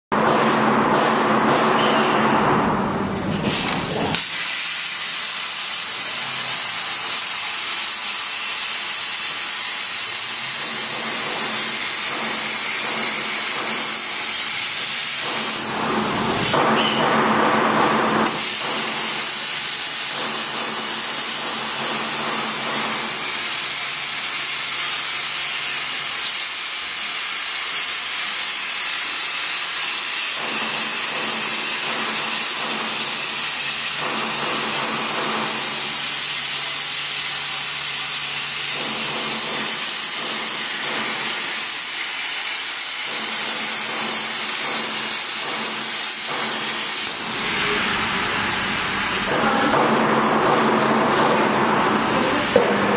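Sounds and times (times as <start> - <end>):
plasma torch cutting steel: 3.1 - 52.9.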